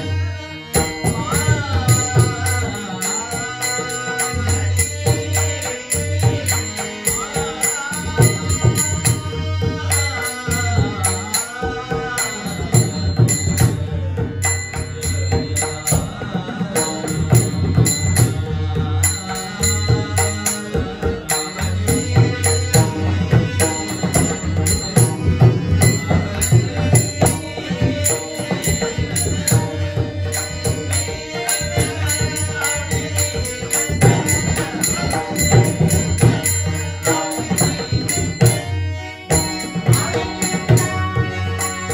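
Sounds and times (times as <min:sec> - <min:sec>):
person singing devotional song: 0:00.0 - 0:41.9
metallic cymbal rhythm: 0:00.7 - 0:41.9.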